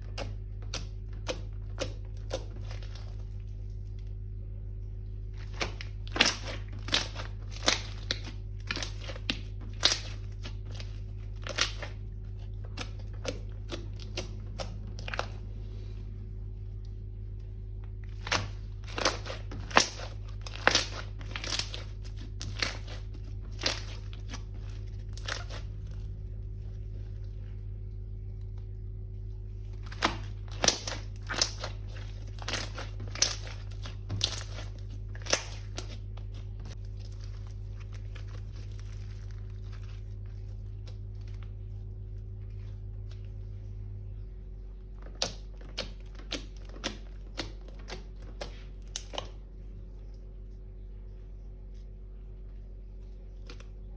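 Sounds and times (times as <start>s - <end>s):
crunchy slime crackling: 0.0s - 43.6s, 44.4s - 53.9s
steady low hum: 0.0s - 53.9s.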